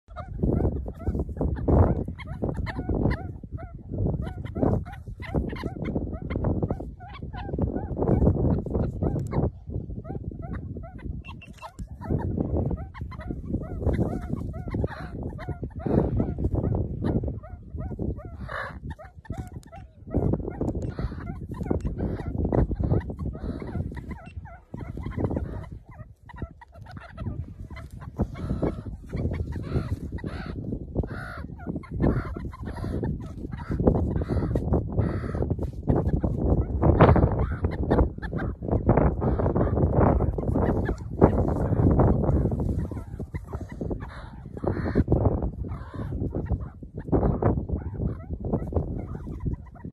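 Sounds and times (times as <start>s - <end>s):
meerkats chirping: 0.0s - 49.9s.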